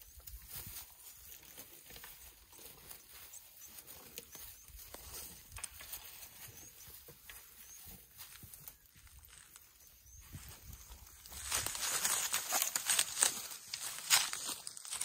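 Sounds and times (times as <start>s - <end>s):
dry grass and twigs crackling: 0.0s - 15.0s.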